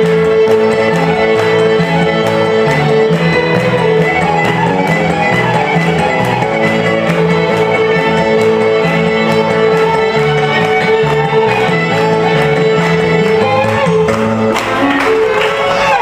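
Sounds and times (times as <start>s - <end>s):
country string band playing: 0.0s - 16.0s
fiddles bowing: 0.0s - 16.0s.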